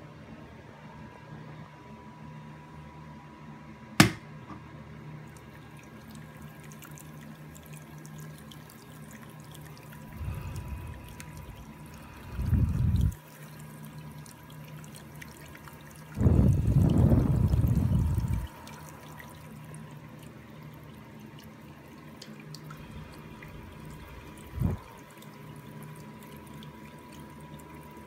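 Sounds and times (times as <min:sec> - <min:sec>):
ultrasonic foggers humming: 0:04.0 - 0:28.0
low gurgling water: 0:05.2 - 0:28.0.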